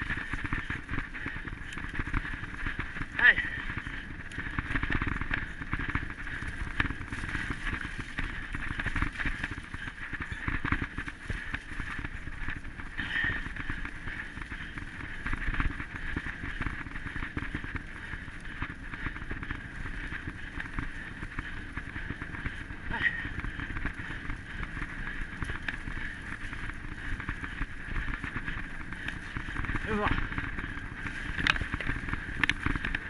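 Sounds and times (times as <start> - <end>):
running footsteps on mud: 0.0 - 33.0.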